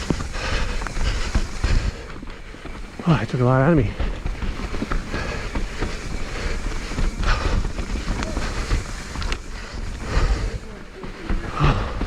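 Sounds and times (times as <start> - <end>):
wind buffeting microphone: 0.0 - 11.0
bike clicks and rattles: 0.0 - 12.0
tyres rumbling on dirt: 0.0 - 12.0.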